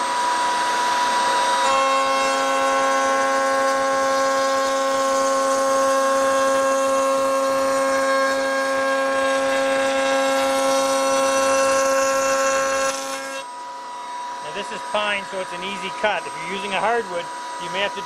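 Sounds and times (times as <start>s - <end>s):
router whining while cutting wood: 0.0s - 18.0s.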